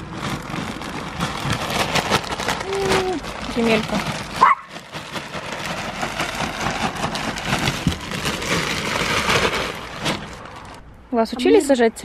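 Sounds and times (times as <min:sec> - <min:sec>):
plastic bag crinkling: 0:00.0 - 0:10.8
soil pouring gritty rustle: 0:00.0 - 0:10.8.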